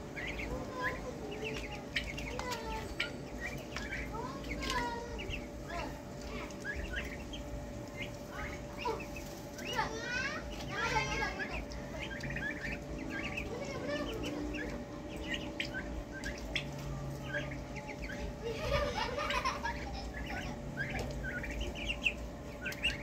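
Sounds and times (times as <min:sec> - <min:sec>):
ducklings and turkeys peeping: 0:00.0 - 0:23.0.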